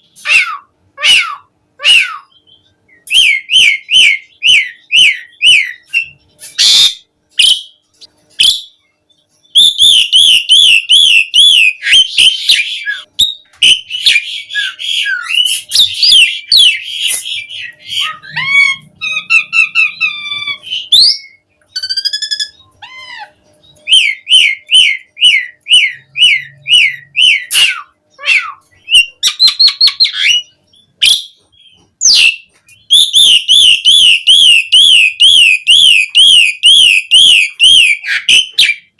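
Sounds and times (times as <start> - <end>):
starling singing: 0.0 - 7.8, 8.4 - 38.9.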